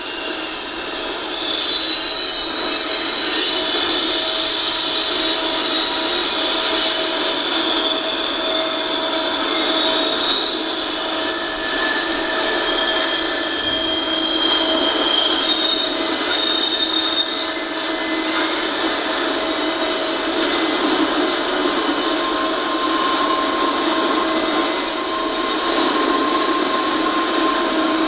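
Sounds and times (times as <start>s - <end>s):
steel wheels squealing on rail: 0.0s - 28.0s
train rolling noise: 0.0s - 28.0s.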